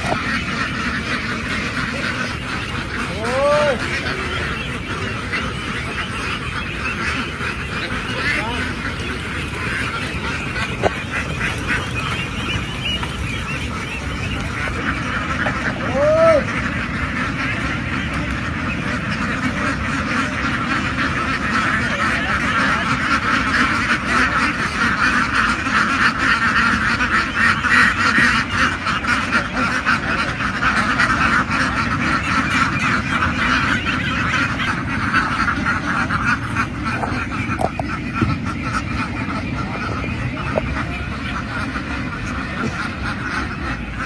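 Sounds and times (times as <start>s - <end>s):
ducks quacking: 0.0s - 44.0s.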